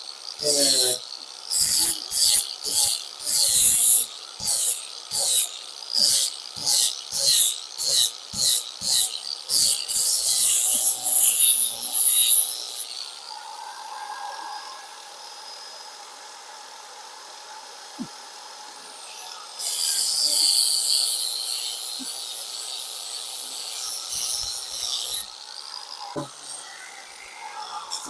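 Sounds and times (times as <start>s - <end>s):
angle grinder grinding filler: 0.0s - 28.0s.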